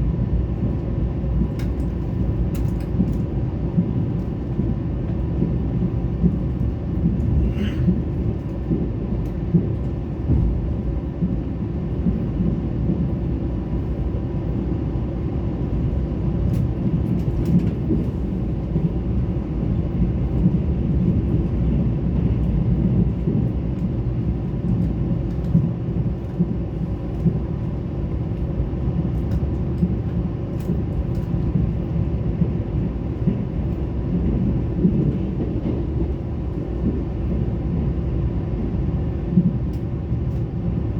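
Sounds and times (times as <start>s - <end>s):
passenger train rumbling: 0.0s - 40.9s.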